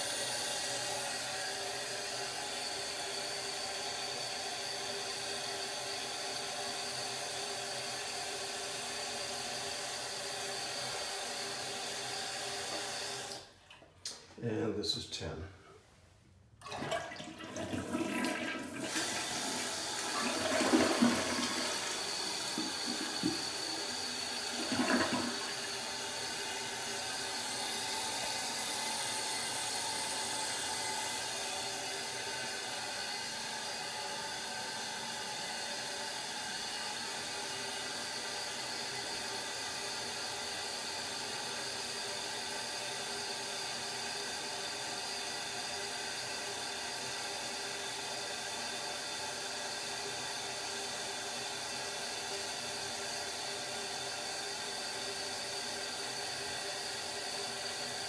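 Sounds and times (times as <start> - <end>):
toilet tank refilling hiss: 0.0 - 13.5, 16.6 - 58.0
toilet flushing: 0.0 - 13.9, 16.6 - 58.0.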